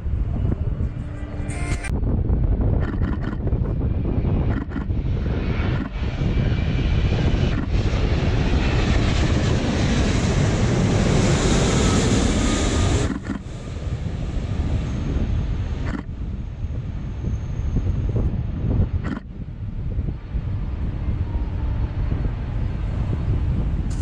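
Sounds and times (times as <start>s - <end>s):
jet airliner engine roar: 0.0s - 24.0s.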